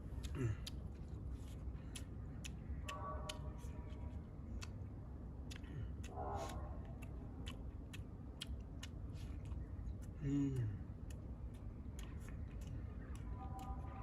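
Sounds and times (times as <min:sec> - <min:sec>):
chewing: 0:00.0 - 0:14.0
low background rumble: 0:00.0 - 0:14.0.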